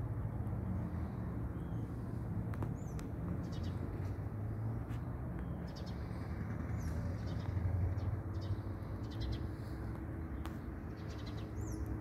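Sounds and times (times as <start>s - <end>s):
small birds chirping: 0.8s - 12.0s.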